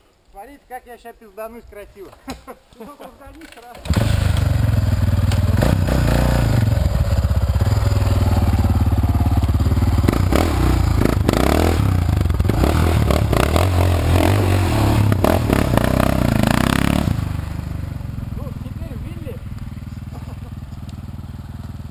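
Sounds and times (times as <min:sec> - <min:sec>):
motorcycle engine revving: 0:03.7 - 0:21.9.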